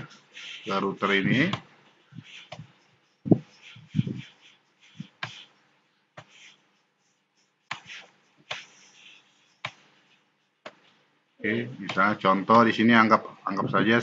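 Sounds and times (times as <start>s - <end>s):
faint breathy hiss: 0.0s - 11.8s.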